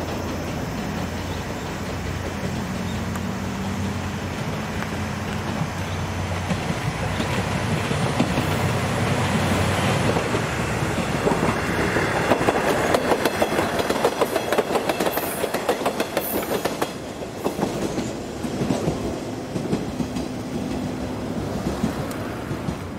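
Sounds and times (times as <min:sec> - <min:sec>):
train wheels clacking over rail joints: 0:00.0 - 0:22.9.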